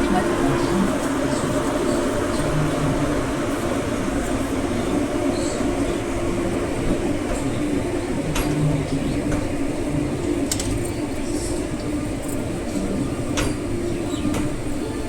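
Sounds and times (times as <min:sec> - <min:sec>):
constant hum: 0:00.0 - 0:15.0
electric train rumbling: 0:00.0 - 0:15.0.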